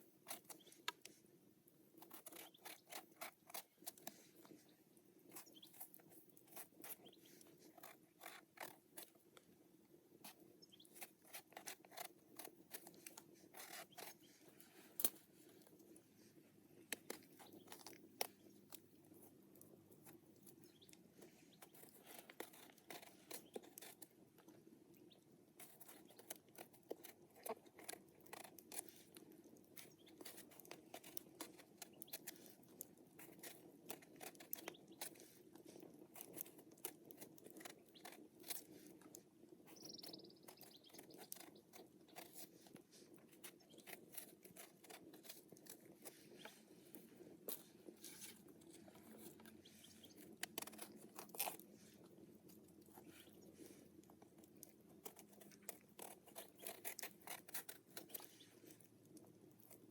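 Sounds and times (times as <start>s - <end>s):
food being cut clicks and crunches: 0.0s - 1.2s, 1.9s - 4.6s, 5.2s - 9.5s, 10.2s - 15.9s, 16.9s - 59.9s.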